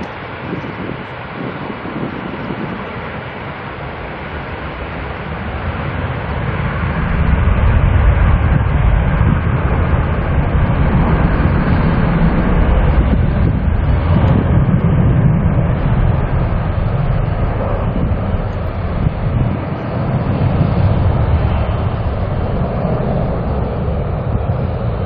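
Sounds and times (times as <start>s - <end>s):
jet engines rumbling: 0.0s - 25.0s.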